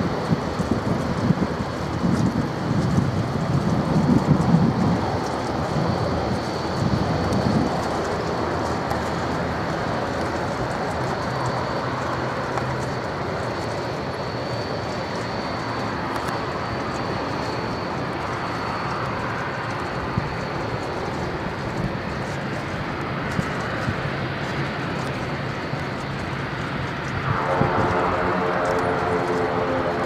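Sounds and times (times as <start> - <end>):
jet engine rush and whine: 0.0 - 30.0.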